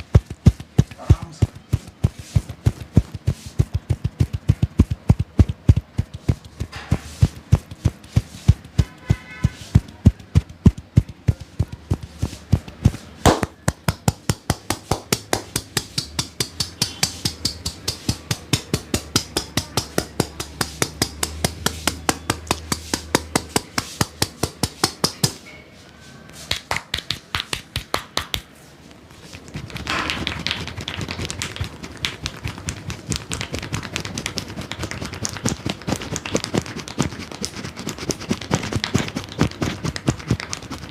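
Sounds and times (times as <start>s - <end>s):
hands slapping and tapping head: 0.0s - 25.4s, 26.4s - 28.5s, 29.3s - 40.9s
rubbing sound: 0.0s - 40.9s.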